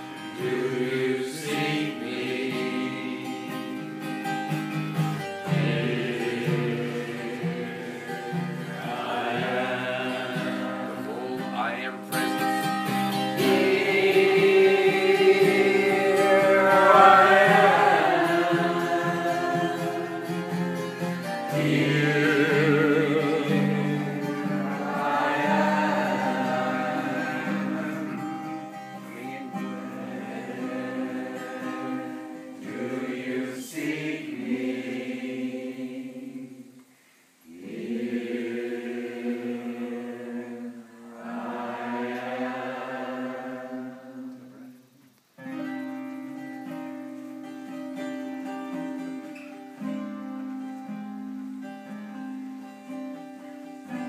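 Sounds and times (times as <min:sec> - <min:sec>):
group singing a chant: 0:00.0 - 0:11.7, 0:12.9 - 0:44.8
strummed acoustic guitar: 0:00.0 - 0:34.7, 0:45.4 - 0:54.0.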